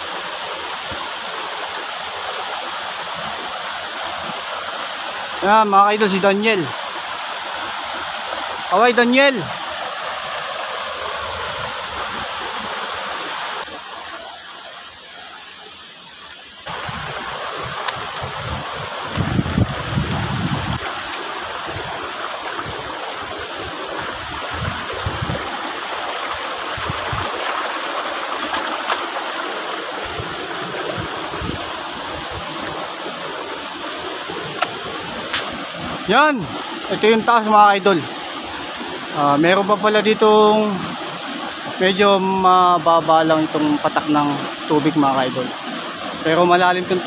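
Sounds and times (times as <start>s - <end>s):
river water rushing: 0.0s - 47.0s.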